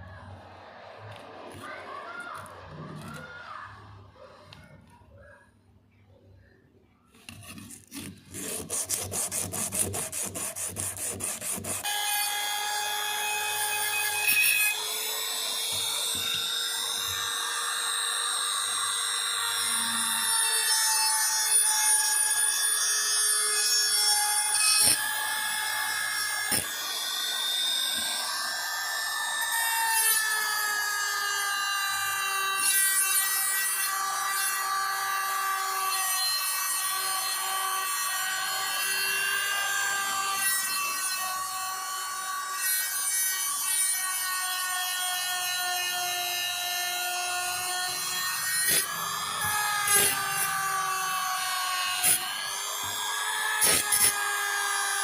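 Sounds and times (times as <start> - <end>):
power tool motor whining: 7.2 - 55.0.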